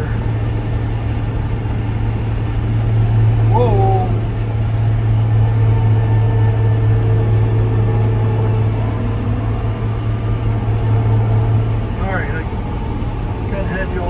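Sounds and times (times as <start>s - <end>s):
combine harvester drone: 0.0s - 14.0s
high machine whine: 0.0s - 14.0s.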